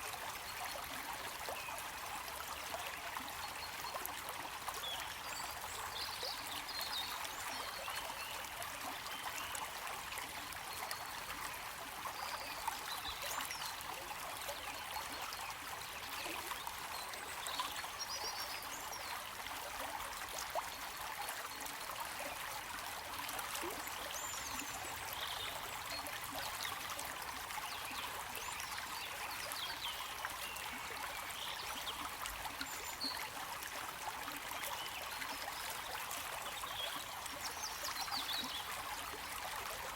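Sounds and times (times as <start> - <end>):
stream of water trickling: 0.0 - 39.9.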